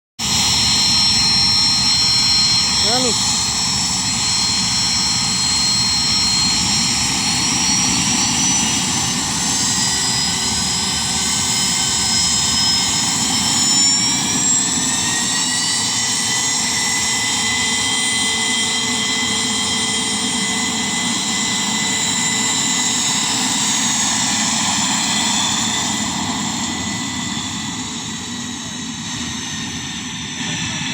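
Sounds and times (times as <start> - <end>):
jet engines at takeoff power: 0.2 - 30.9.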